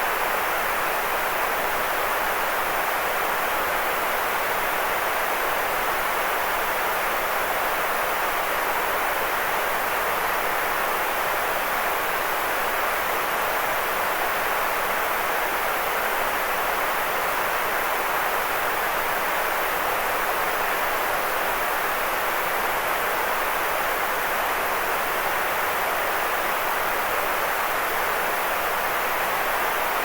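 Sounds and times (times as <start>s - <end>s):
white noise hiss: 0.0s - 30.0s.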